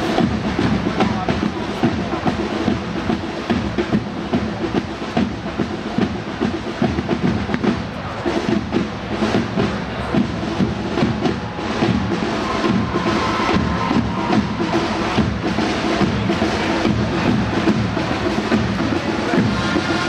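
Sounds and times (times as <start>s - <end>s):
marching side drums: 0.0s - 20.0s.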